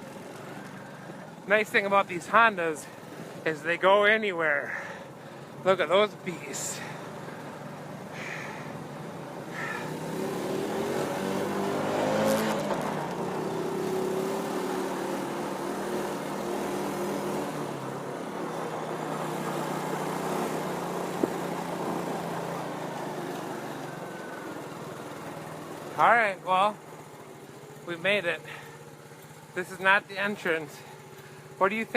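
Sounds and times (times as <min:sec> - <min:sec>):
small engine running: 0:04.6 - 0:05.7, 0:06.6 - 0:31.9.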